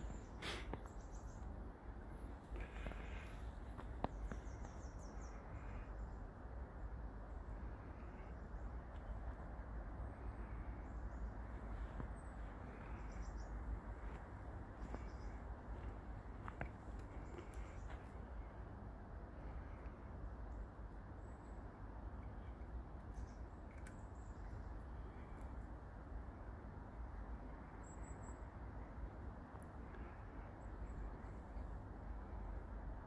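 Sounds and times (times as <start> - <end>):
small birds chirping: 0.0 - 26.7, 27.3 - 32.8
low outdoor noise: 0.0 - 33.0.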